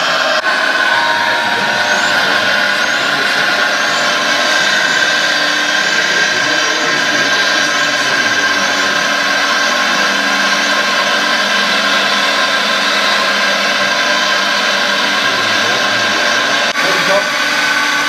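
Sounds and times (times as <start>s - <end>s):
electric hydraulic pump whine: 0.0s - 18.0s.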